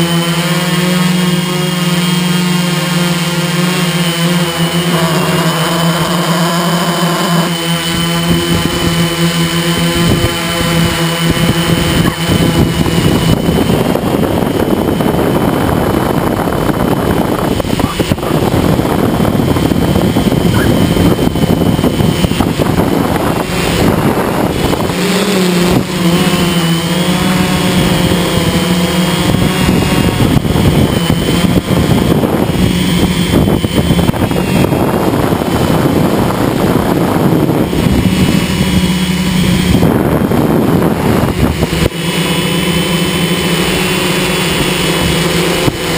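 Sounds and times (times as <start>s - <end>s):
drone motors whining: 0.0s - 45.9s
wind buffeting microphone: 1.2s - 45.9s.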